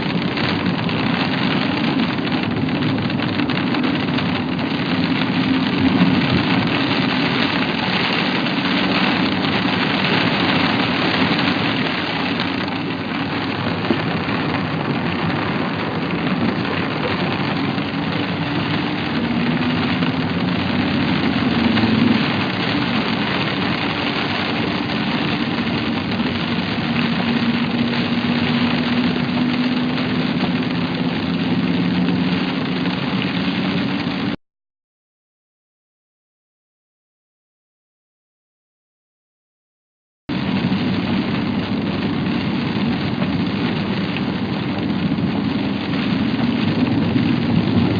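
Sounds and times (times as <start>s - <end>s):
car engine running: 0.0s - 34.4s, 40.3s - 47.9s.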